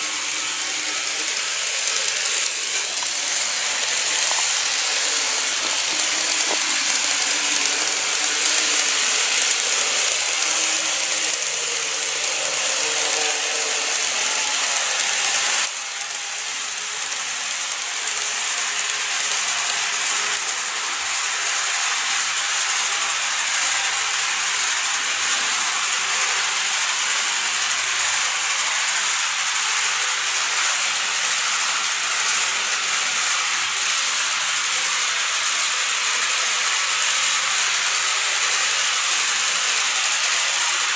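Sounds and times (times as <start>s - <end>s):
model train running on track: 0.0s - 40.9s
rattle on rails: 0.0s - 40.9s.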